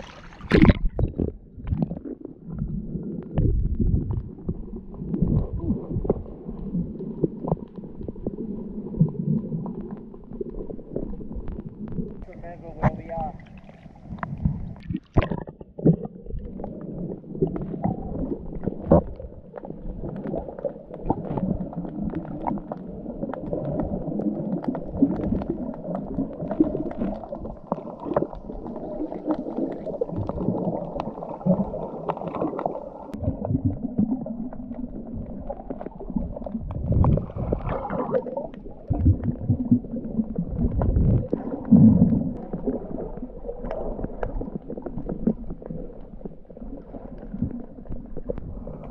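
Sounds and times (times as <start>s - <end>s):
underwater rumbling and gurgling: 0.0s - 48.9s
small underwater clicks: 0.1s - 48.9s.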